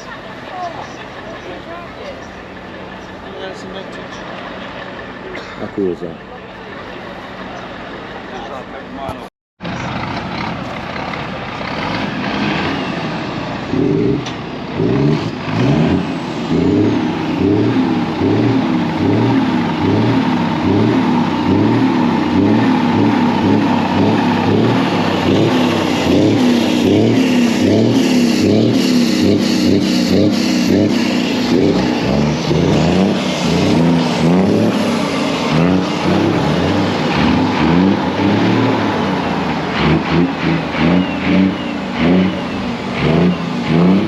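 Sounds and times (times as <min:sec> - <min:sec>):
diesel truck engine revving: 0:00.0 - 0:44.0.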